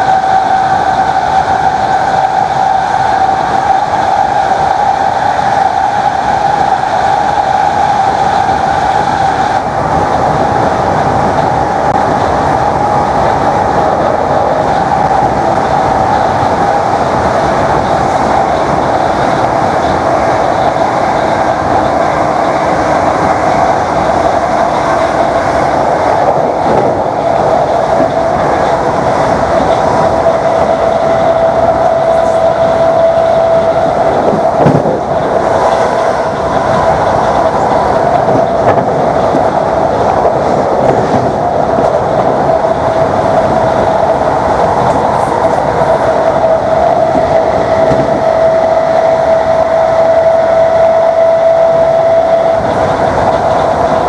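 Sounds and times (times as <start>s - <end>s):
train running gear rattle: 0.0s - 51.4s, 52.3s - 54.0s.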